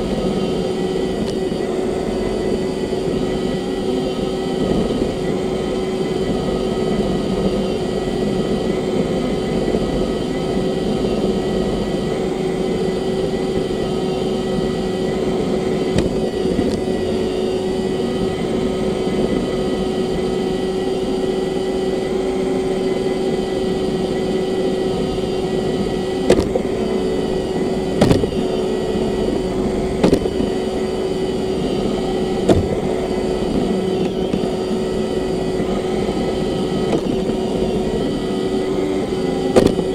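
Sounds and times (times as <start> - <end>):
robot vacuum motor hum: 0.0 - 39.9
vacuum brush noise: 0.0 - 39.9.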